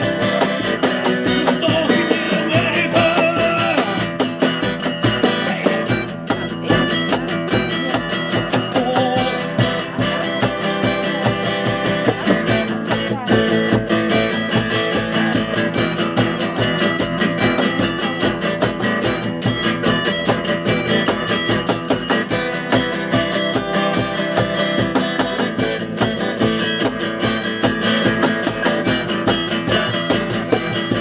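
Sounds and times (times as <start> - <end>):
rock band playing instrumental: 0.0 - 31.0.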